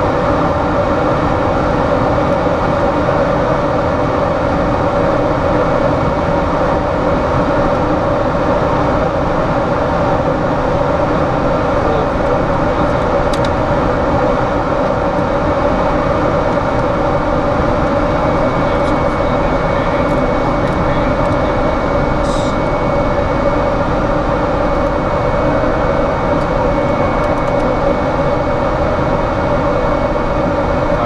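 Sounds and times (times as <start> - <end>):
aircraft cockpit drone: 0.0 - 31.0.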